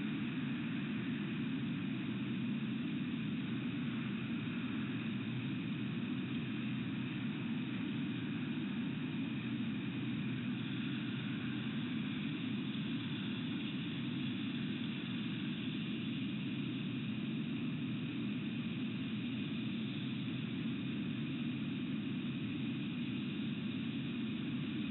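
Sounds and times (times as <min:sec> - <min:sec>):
steady background drone: 0:00.0 - 0:24.9.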